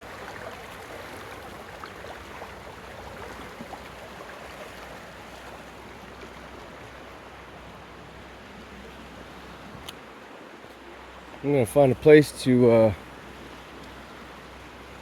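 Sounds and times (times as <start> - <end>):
creek water flowing: 0.0 - 15.0
small splashes and trickles: 0.0 - 15.0.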